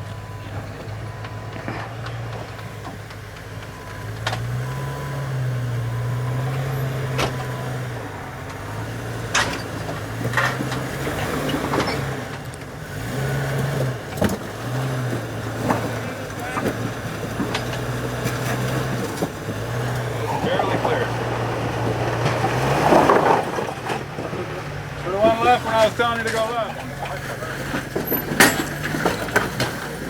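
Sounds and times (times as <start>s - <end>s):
off-road engine revving: 0.0s - 30.0s
tires knocking on rock: 0.0s - 30.0s.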